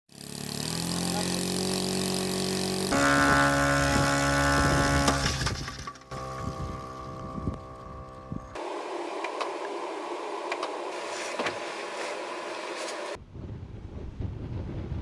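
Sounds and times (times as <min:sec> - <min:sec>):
engine running: 0:00.1 - 0:13.1.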